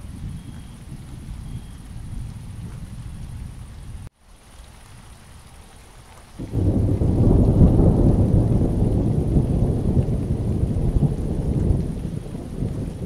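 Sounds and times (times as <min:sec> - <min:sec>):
thunder rumbling: 0:00.0 - 0:04.1, 0:06.3 - 0:13.0
rain on wet pavement: 0:00.0 - 0:13.0.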